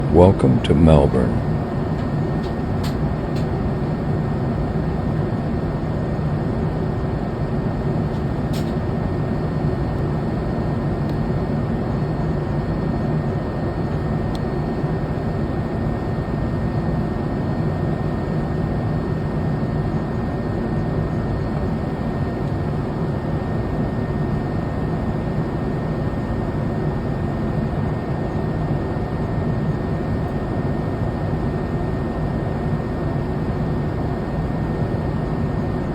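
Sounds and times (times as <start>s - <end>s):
airplane cabin air and engine rush: 0.0s - 35.9s.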